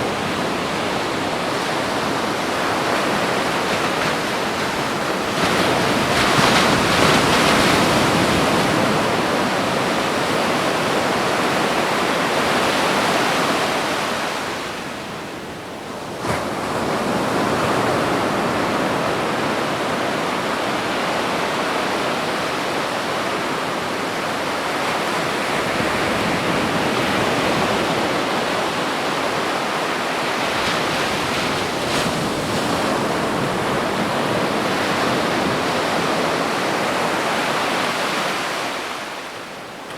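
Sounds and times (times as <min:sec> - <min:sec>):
ocean surf washing on beach: 0:00.0 - 0:39.9.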